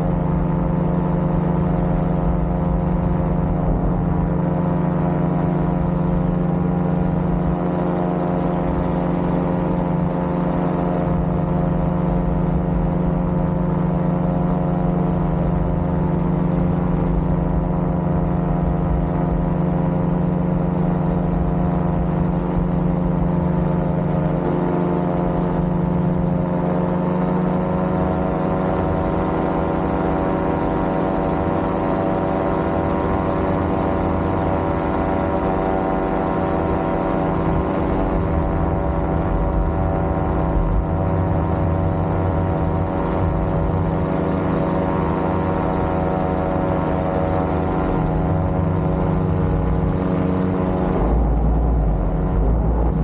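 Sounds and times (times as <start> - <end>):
paramotor engine drone: 0.0 - 53.0
wind rumble on microphone: 0.0 - 53.0.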